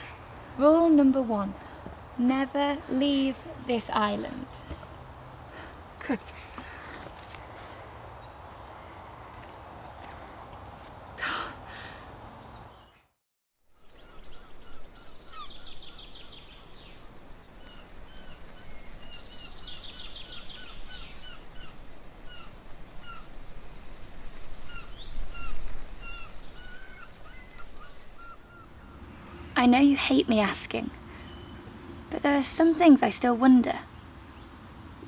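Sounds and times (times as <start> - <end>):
songbirds chirping and trilling: 0.0 - 10.6, 12.0 - 13.1, 13.7 - 35.0
outdoor background noise: 0.0 - 35.0.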